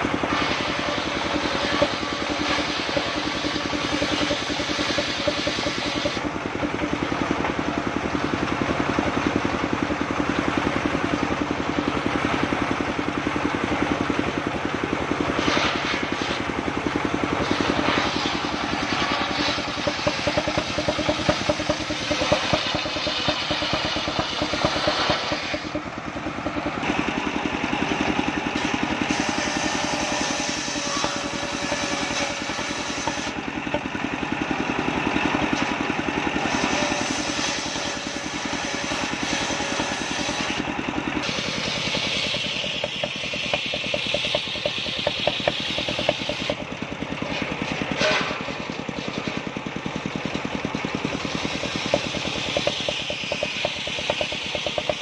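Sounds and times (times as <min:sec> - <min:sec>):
circular saw cutting wood: 0:00.0 - 0:55.0
engine chugging: 0:00.0 - 0:55.0.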